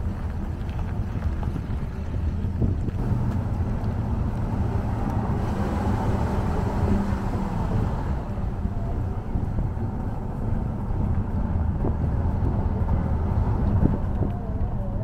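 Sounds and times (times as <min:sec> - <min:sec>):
car driving on dirt road: 0:00.0 - 0:15.0.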